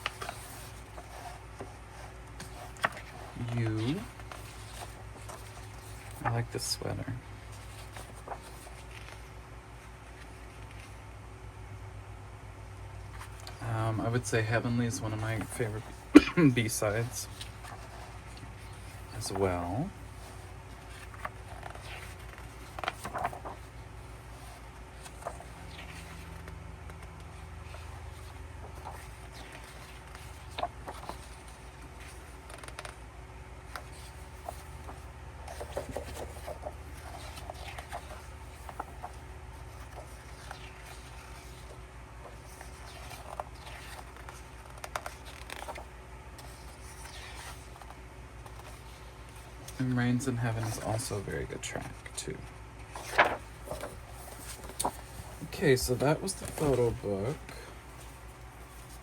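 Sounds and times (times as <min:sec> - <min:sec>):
paper pages rustling: 0:00.0 - 0:11.1, 0:13.0 - 0:59.0
faint low hum: 0:00.0 - 0:59.0.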